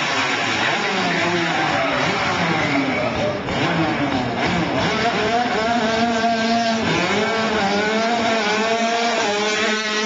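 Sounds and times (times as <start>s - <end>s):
minibike engines revving: 0.0s - 10.0s.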